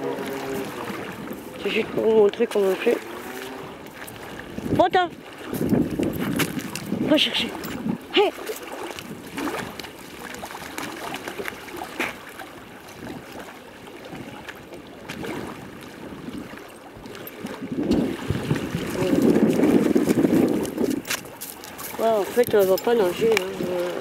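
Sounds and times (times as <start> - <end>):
rough rush of wind and water: 0.0 - 24.0
water sloshing and lapping: 0.0 - 24.0
wind on microphone: 0.0 - 24.0.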